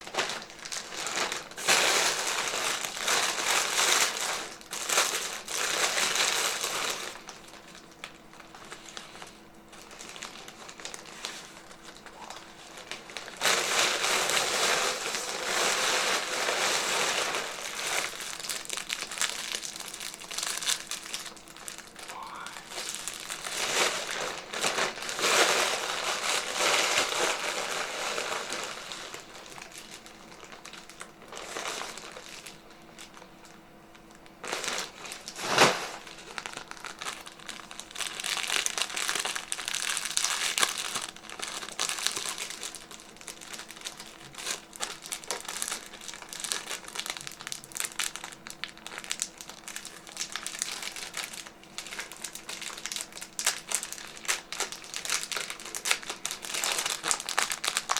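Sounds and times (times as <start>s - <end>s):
foil balloon crinkling: 0.0s - 57.9s.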